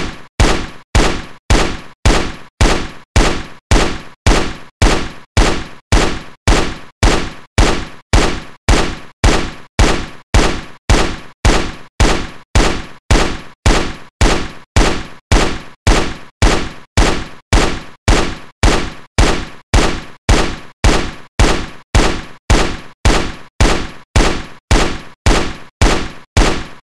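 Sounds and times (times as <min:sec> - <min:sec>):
rifle shots: 0:00.0 - 0:26.8.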